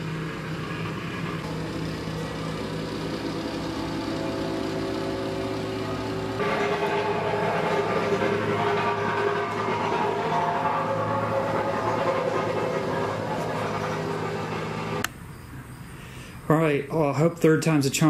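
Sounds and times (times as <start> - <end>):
higher engine note: 0.0 - 16.3
heavy machinery engines droning: 0.0 - 18.0.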